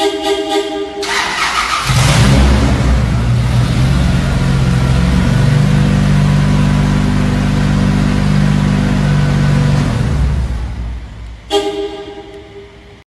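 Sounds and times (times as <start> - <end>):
car engine idling: 1.0 - 12.4.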